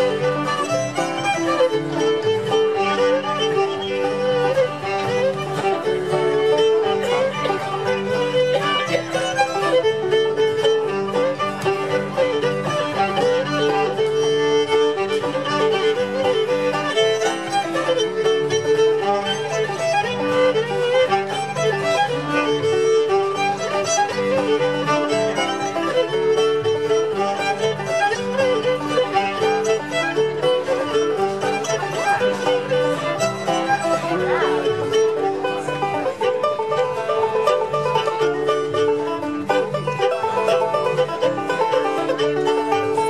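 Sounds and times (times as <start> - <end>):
fiddle melody: 0.0 - 43.0
strummed acoustic guitar: 0.0 - 43.0
upright bass: 4.6 - 43.0.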